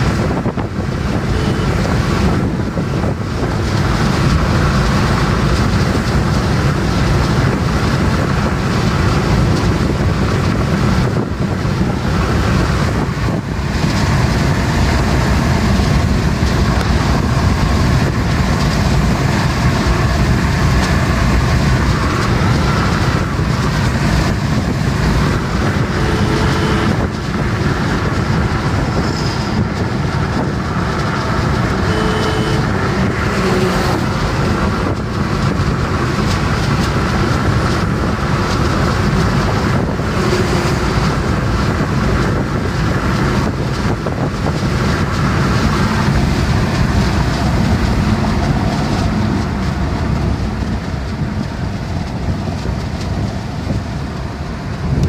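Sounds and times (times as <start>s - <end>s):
tyre and engine drone: 0.0s - 55.0s
wind on microphone: 0.0s - 55.0s.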